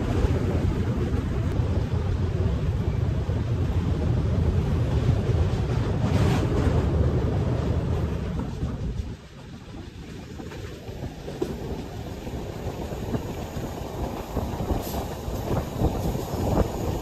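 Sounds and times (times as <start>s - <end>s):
train rumbling across steel bridge: 0.0s - 17.0s
wind buffeting microphone: 0.0s - 17.0s.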